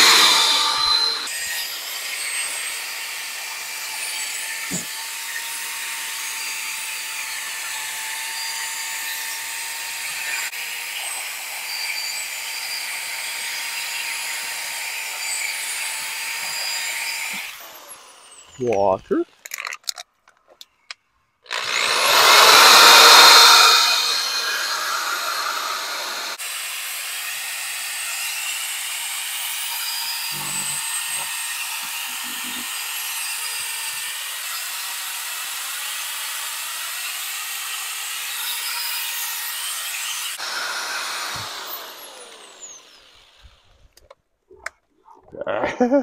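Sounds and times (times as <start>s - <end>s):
drill sanding plastic whirring: 0.0s - 18.6s, 21.5s - 44.0s.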